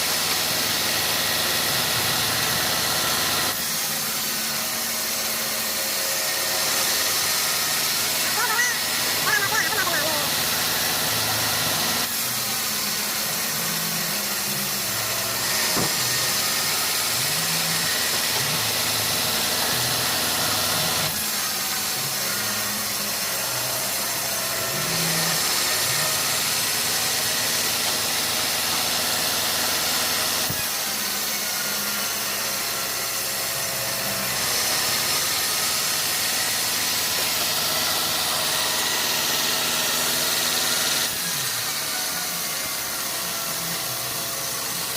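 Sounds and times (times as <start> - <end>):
sawmill saw hissing: 0.0 - 44.9.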